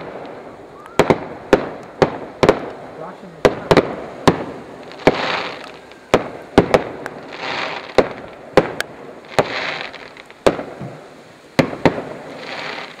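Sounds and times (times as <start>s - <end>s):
firework shells bursting: 0.0s - 13.0s
hissing crackle of fireworks: 0.0s - 13.0s.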